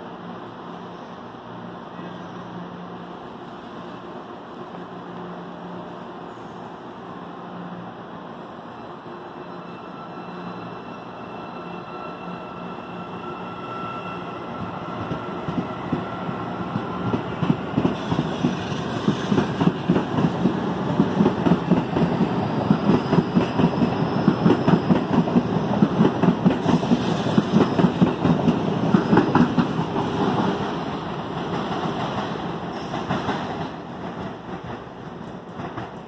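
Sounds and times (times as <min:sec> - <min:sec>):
commuter train passing: 0:00.0 - 0:36.0.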